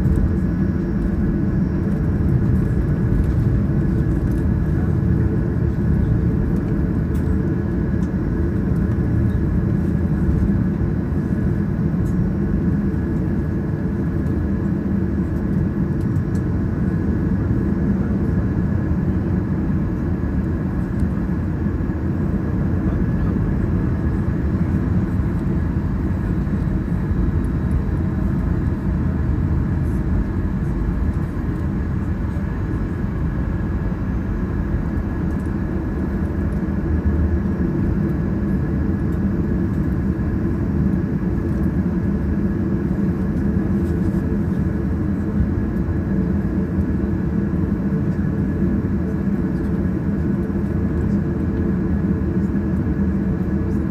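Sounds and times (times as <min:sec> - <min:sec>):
jet engines idling: 0:00.0 - 0:53.9.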